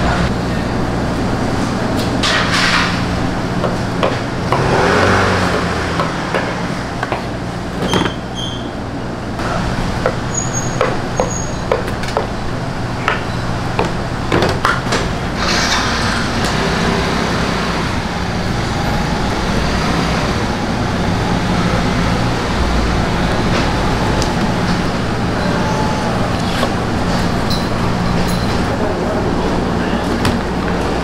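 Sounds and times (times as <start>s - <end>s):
low mechanical rumble: 0.0s - 31.0s.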